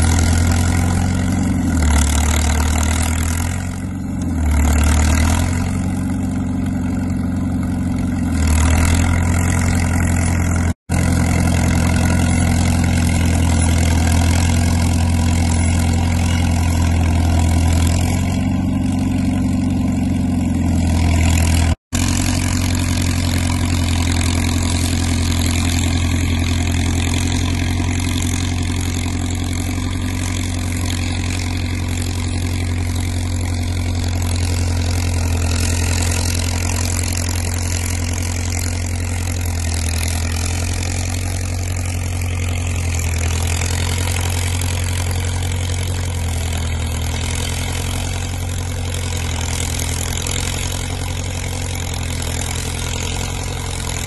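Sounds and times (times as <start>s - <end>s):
crawler engine running steadily: 0.0s - 54.0s.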